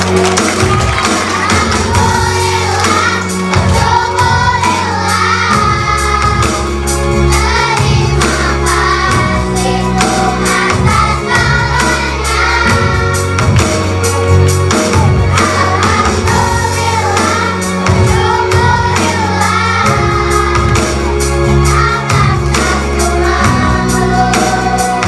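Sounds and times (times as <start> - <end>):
backing music with beat: 0.0 - 25.0
children singing: 0.6 - 25.0.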